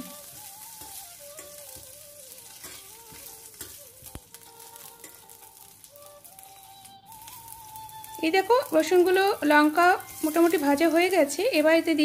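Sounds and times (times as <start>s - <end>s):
garlic sizzling in oil: 0.0s - 12.0s
soft background melody: 0.0s - 12.0s
spatula stirring and scraping: 0.0s - 12.0s.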